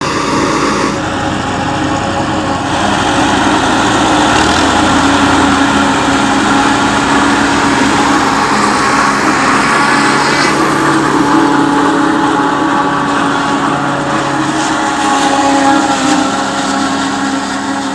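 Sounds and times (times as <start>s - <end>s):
continuous mechanical din: 0.0s - 17.9s
harvester engine running: 0.0s - 17.9s.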